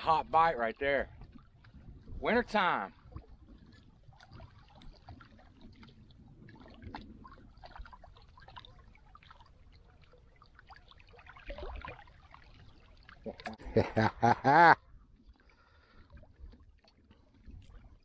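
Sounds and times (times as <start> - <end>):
water lapping and trickling: 0.0 - 18.0.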